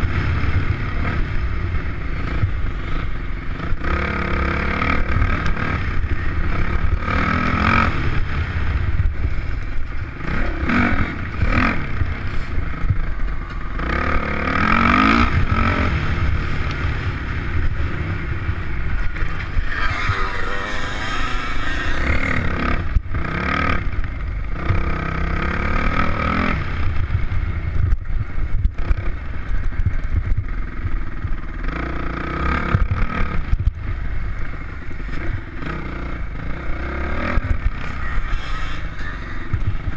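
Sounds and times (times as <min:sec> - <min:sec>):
dirt bike engine revving: 0:00.0 - 0:27.4, 0:30.0 - 0:33.6, 0:34.5 - 0:39.9
wind rumble on microphone: 0:00.0 - 0:39.9.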